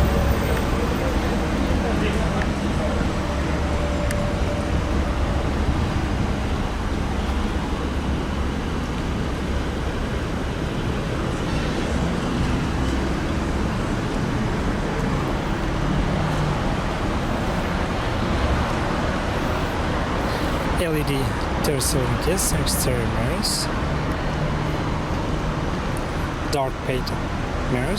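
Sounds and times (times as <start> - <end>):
road noise hiss: 0.0 - 27.9
road vehicles rumbling: 0.0 - 27.9.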